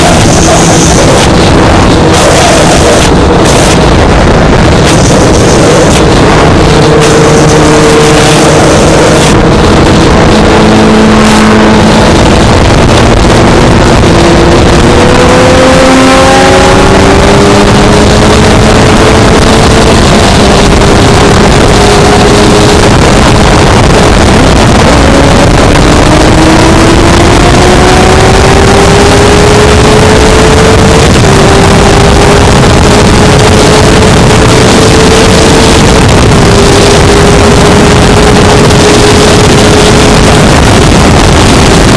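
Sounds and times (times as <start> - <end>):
motorcycle engine revving: 0.0 - 41.9
wind rush on microphone: 0.0 - 41.9.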